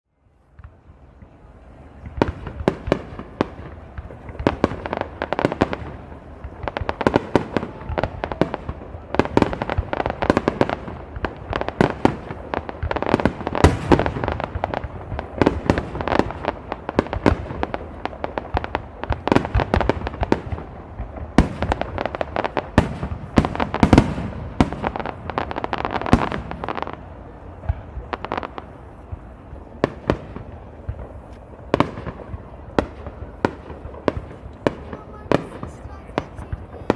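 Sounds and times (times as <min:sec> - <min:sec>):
fireworks bursts and booms: 0:00.3 - 0:36.9.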